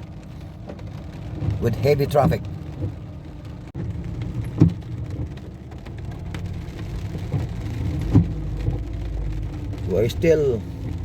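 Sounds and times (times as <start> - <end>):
car rumbling in slow traffic: 0.0 - 11.0
rain falling on car: 0.0 - 11.0.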